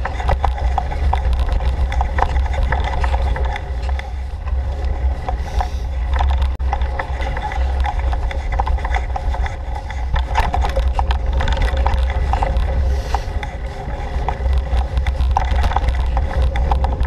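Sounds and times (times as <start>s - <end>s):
bike clicks and rattles: 0.0s - 17.0s
low rumble of bike on trail: 0.0s - 17.0s.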